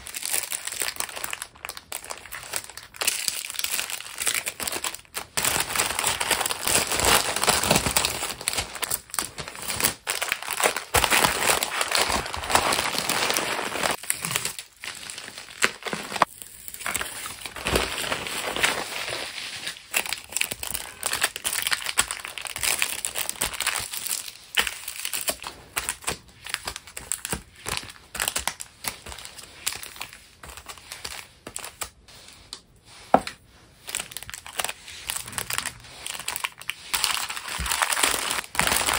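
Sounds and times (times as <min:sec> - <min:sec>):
packaging crinkling and rustling: 0:00.0 - 0:32.0, 0:33.1 - 0:38.9.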